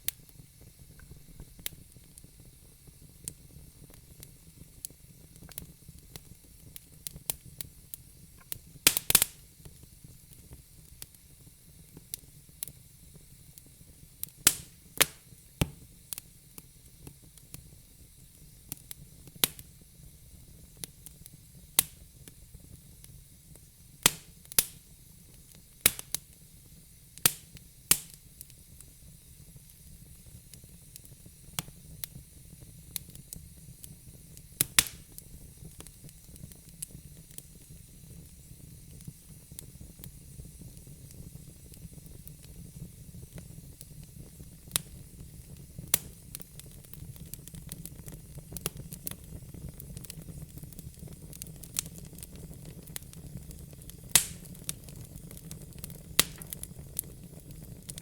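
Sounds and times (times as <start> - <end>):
faint steady hiss: 0.0 - 58.0
wood fire crackling and popping: 0.0 - 58.0.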